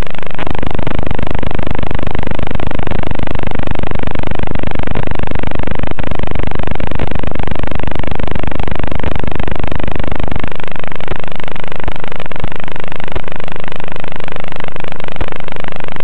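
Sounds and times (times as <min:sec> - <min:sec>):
static hiss with crackle: 0:00.0 - 0:16.0.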